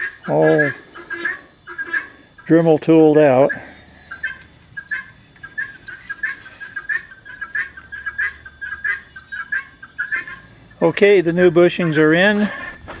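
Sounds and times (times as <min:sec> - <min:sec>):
bird chirping rapidly: 0:00.0 - 0:12.9.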